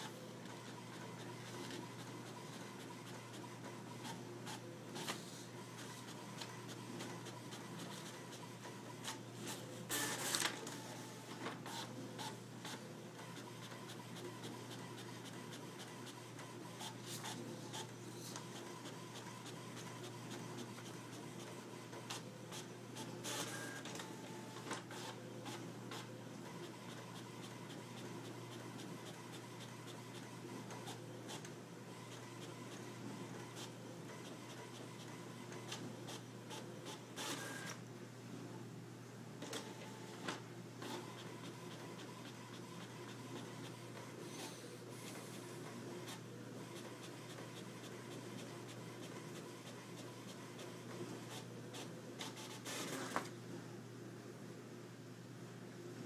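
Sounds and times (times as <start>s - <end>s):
inkjet printer printing: 0.0s - 37.9s, 39.4s - 53.4s.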